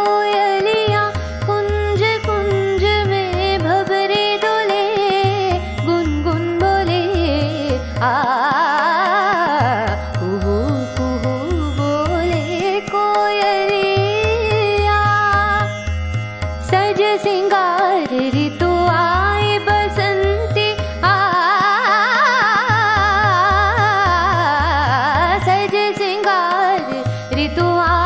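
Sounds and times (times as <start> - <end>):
woman singing: 0.0 - 15.8, 16.6 - 28.0
tabla beat: 0.0 - 28.0.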